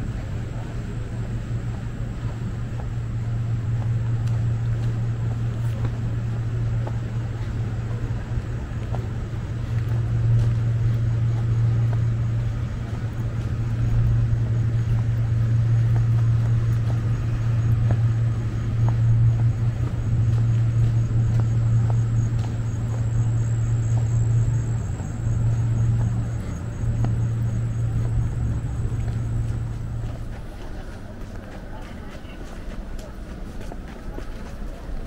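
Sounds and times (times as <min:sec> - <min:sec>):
machinery humming: 0:00.0 - 0:35.0.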